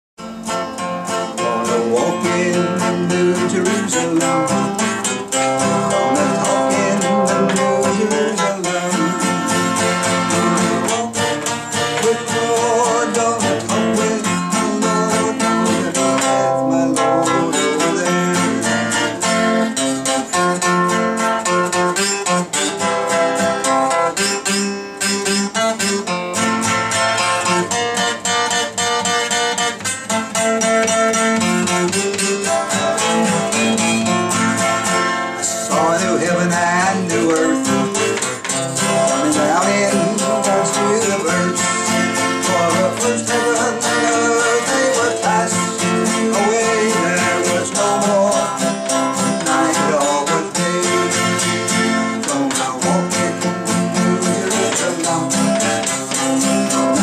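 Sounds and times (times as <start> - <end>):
strummed acoustic guitar: 0.2 - 57.0.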